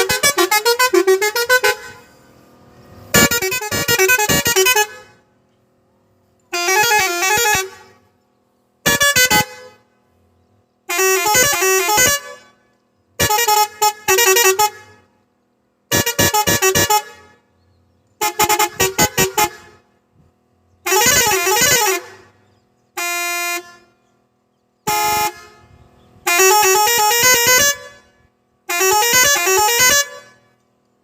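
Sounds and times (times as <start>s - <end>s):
musical air horn tune: 0.0s - 5.4s, 6.2s - 8.2s, 8.8s - 15.2s, 15.9s - 24.2s, 24.8s - 30.7s.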